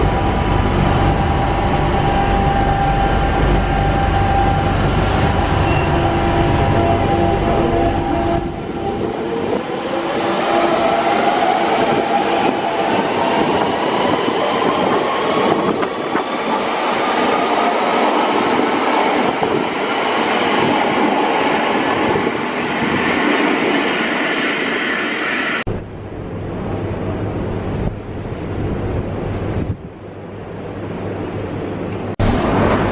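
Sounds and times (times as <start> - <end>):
train running and wheel noise: 0.0 - 32.9.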